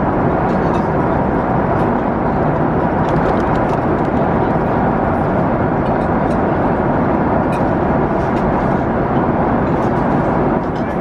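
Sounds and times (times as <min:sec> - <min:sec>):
airliner cabin engine and airflow noise: 0:00.0 - 0:11.0.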